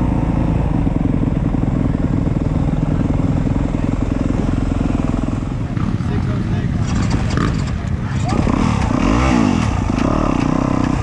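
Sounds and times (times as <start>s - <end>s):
dirt bike engines running: 0.0s - 11.0s.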